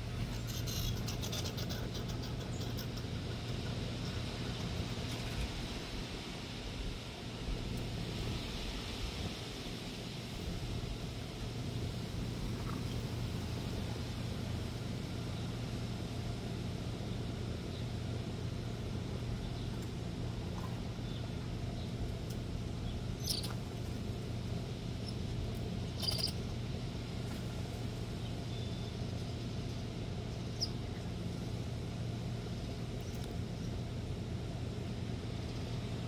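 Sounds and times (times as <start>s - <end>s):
low outdoor hum: 0.0s - 36.0s.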